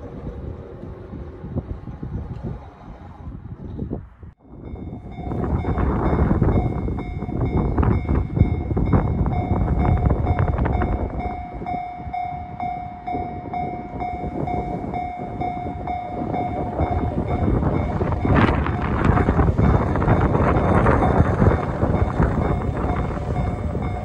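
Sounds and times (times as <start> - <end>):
wind rumble on microphone: 0.0 - 24.0
level-crossing alarm ringing: 4.5 - 24.0.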